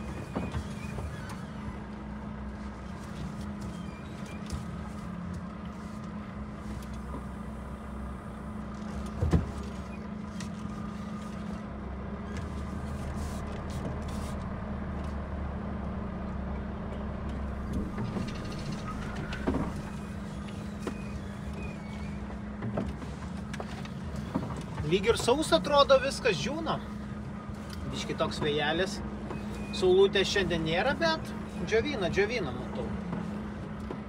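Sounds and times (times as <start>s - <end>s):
truck diesel engine droning: 0.0s - 34.0s.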